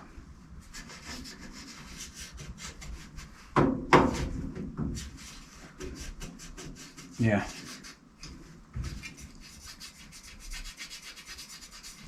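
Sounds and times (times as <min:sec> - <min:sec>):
rubbing and scraping handling sounds: 0:00.6 - 0:12.0.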